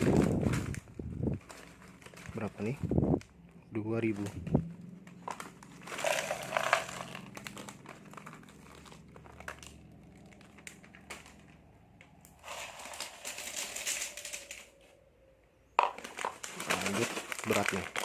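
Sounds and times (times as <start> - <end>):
plastic packets crinkling: 0.0 - 15.0, 15.8 - 18.0.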